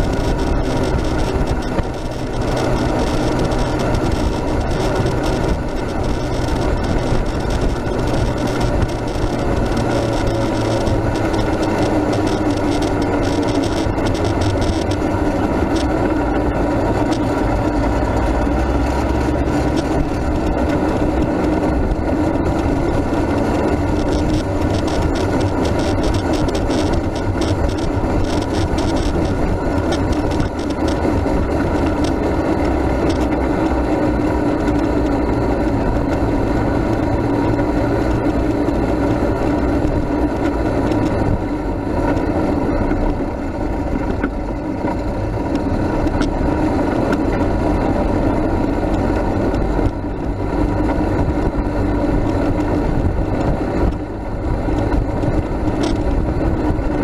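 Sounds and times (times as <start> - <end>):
towed vehicle rolling on road: 0.0 - 57.0
vehicle rattles and clicks: 0.0 - 57.0.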